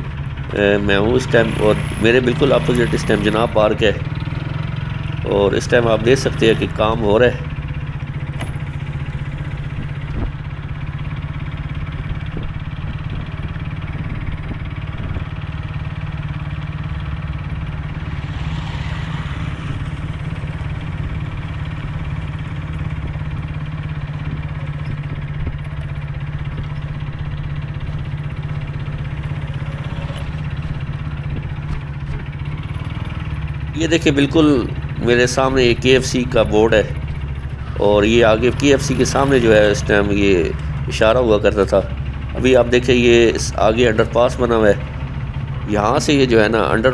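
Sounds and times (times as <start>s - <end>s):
motorcycle engine humming: 0.0s - 46.9s.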